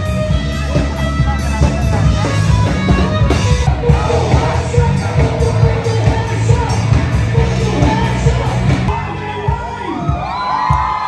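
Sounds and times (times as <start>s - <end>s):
person singing: 0.0s - 10.0s
bass guitar: 0.0s - 11.0s
live pop rock band: 0.0s - 11.0s.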